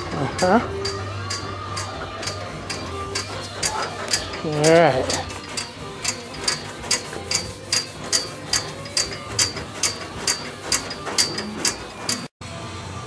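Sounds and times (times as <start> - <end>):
steady sharp ticking: 0.4 - 12.3.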